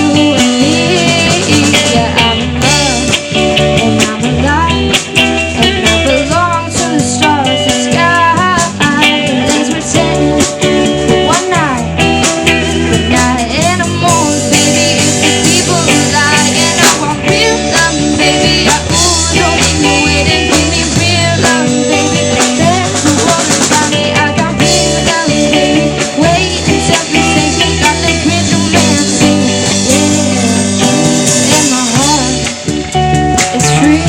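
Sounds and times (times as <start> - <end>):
drum kit beat: 0.0 - 34.0
rock band playing: 0.0 - 34.0.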